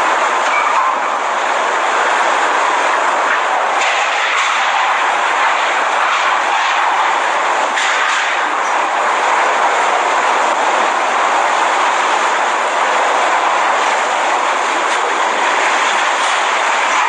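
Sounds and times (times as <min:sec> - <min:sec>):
heavy rain: 0:00.0 - 0:17.0
hurricane winds roaring: 0:00.0 - 0:17.0.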